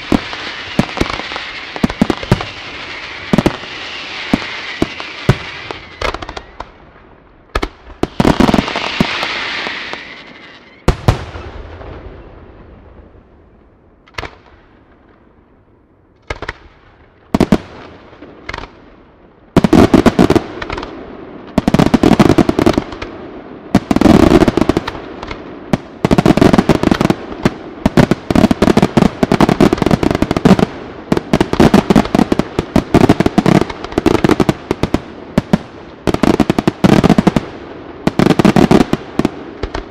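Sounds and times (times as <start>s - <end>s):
firework bangs: 0.0s - 6.8s, 7.5s - 13.2s, 19.5s - 39.9s.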